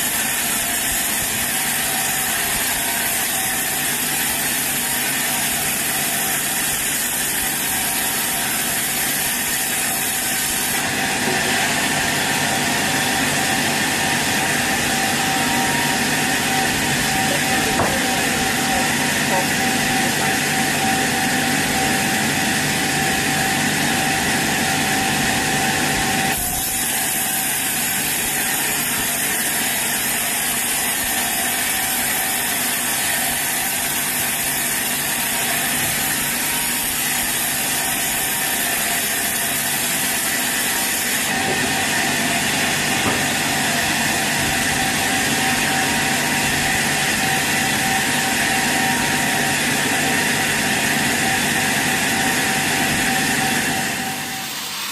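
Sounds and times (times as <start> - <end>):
sawmill saw cutting log: 0.0 - 54.9.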